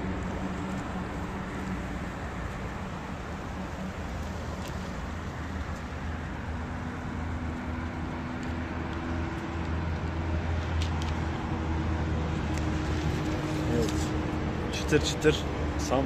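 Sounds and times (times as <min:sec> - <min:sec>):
low rumble of vehicle engines: 0:00.0 - 0:16.0.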